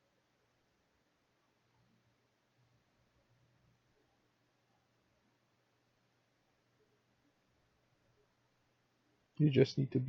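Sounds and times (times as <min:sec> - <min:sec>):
faint microphone hiss: 0:00.0 - 0:10.0
low steady hum: 0:00.0 - 0:10.0.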